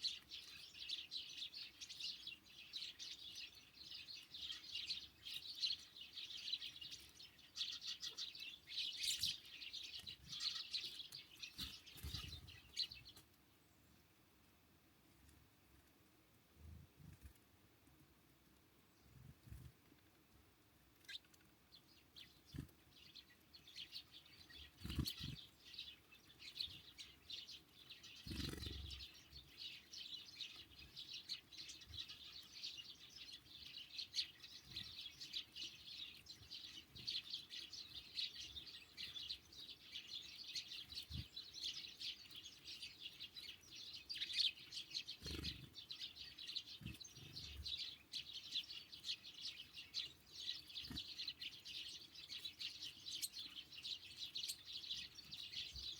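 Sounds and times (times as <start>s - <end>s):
small songbirds chirping: 0.0s - 55.9s.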